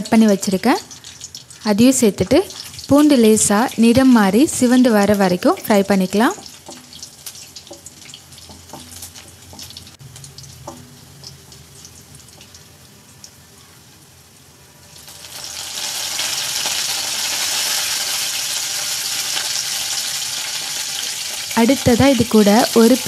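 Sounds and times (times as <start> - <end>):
loud steady sizzling hiss: 0.0 - 23.0
spices frying in oil: 0.0 - 23.0.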